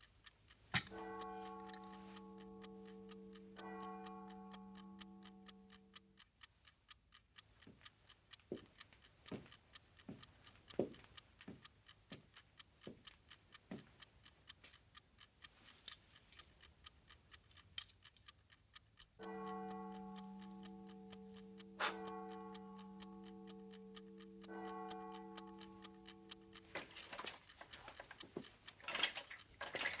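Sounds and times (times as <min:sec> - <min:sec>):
wind-up alarm clock ticking: 0:00.0 - 0:30.0.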